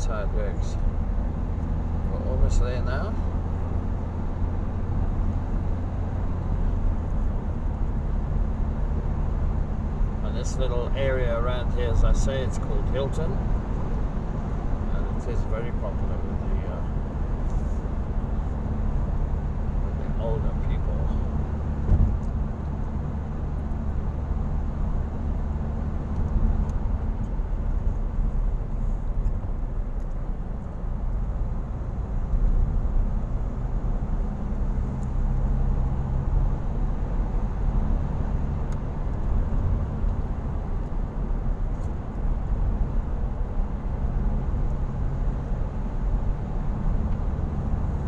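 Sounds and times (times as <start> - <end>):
car engine rumble: 0.0 - 48.0
tyres on road: 0.0 - 48.0.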